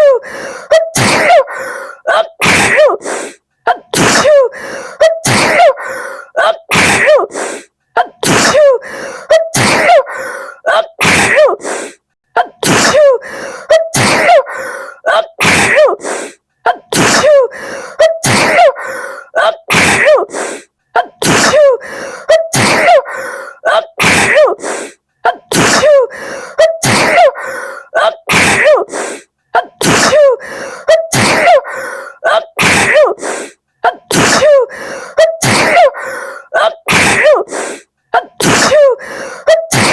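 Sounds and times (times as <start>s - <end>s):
woman gasping: 0.0s - 39.9s
woman sneezing: 0.0s - 39.9s.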